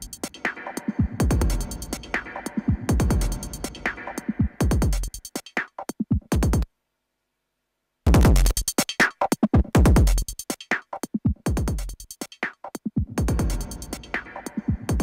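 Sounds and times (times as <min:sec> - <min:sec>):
drum machine beat: 0:00.0 - 0:06.7, 0:08.1 - 0:15.0.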